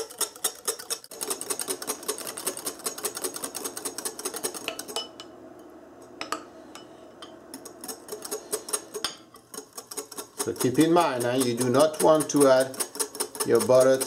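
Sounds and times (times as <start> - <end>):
whisk clicking against glass bowl: 0.0 - 5.1, 7.6 - 14.0.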